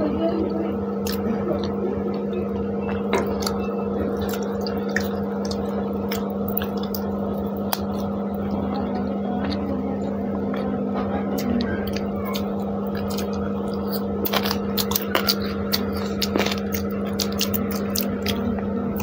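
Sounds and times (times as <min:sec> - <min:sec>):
steady low hum: 0:00.0 - 0:19.0
fingers squishing food: 0:01.0 - 0:09.8, 0:10.4 - 0:19.0
chewing: 0:01.0 - 0:19.0.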